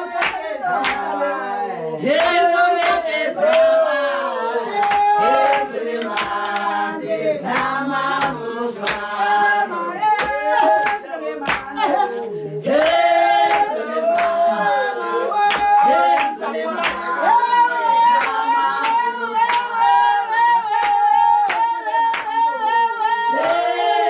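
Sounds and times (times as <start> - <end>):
group singing: 0.0 - 24.0
rhythmic hand clapping: 0.0 - 24.0.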